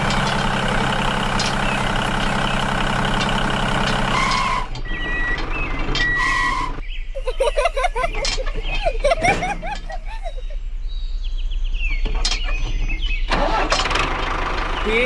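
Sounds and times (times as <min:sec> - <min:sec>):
tractor engine running: 0:00.0 - 0:10.8, 0:11.4 - 0:15.0.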